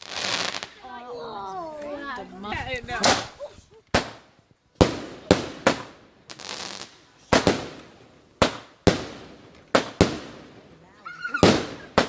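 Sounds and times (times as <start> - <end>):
fireworks bangs: 0.0 - 1.0, 2.9 - 12.0.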